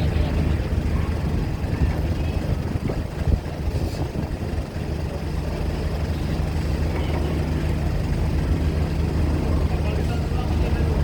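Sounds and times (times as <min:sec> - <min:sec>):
heavy engine humming: 0:00.0 - 0:11.0.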